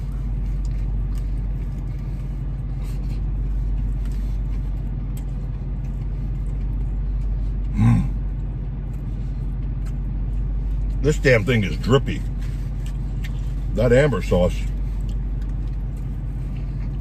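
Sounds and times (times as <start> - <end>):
person chewing: 0.0 - 11.0, 11.7 - 13.7, 14.6 - 17.0
car engine idling: 0.0 - 17.0.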